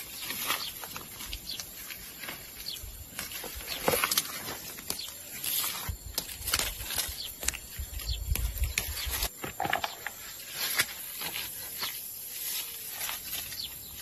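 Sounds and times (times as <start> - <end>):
rustling of dry vines and leaves: 0.0 - 14.0.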